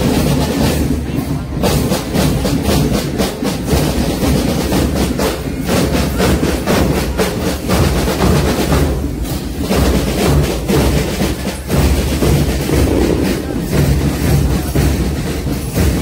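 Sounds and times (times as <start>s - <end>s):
fast rhythmic drumming: 0.0s - 16.0s.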